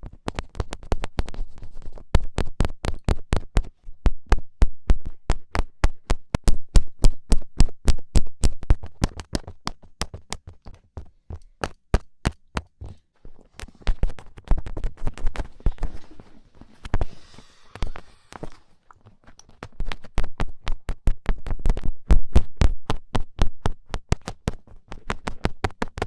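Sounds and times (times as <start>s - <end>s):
fingertip taps on microphone: 0.3s - 16.0s, 19.6s - 26.0s.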